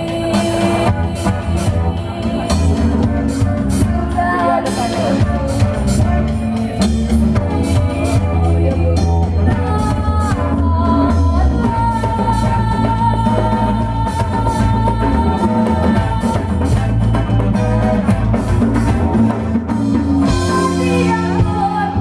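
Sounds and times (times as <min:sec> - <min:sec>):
woman singing: 0:00.0 - 0:17.5, 0:20.2 - 0:22.0
drum kit: 0:00.0 - 0:22.0
electric bass: 0:00.0 - 0:22.0
hand drum: 0:00.0 - 0:22.0.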